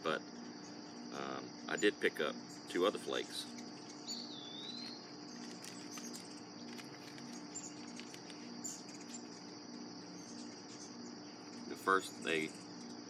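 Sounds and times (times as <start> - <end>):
insects trilling: 0.0 - 13.0
pulsing low hum: 0.0 - 13.0.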